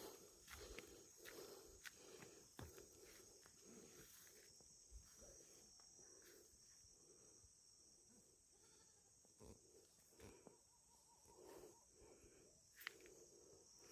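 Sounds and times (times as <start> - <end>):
high-pitched insect chorus: 0.0 - 13.9.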